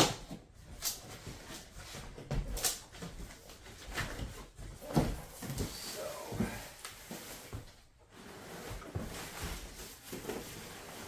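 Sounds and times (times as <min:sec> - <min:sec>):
packing fill and cardboard rustling: 0:00.1 - 0:11.0.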